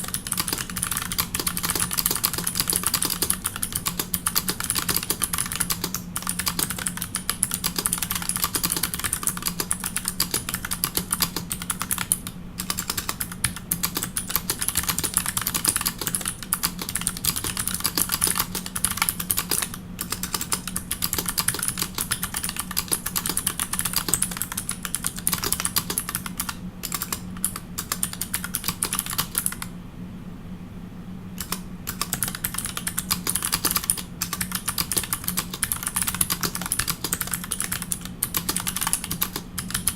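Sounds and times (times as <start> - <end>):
clicky keyboard typing: 0.0 - 29.7, 31.4 - 39.9.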